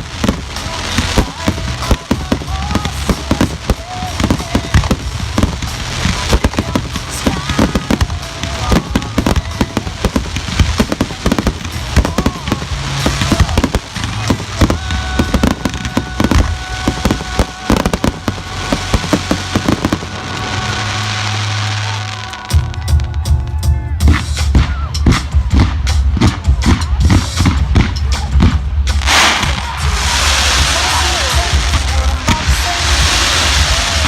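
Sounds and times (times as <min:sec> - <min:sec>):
firework explosions: 0:00.0 - 0:22.8, 0:24.0 - 0:34.0
music playing: 0:00.0 - 0:34.0.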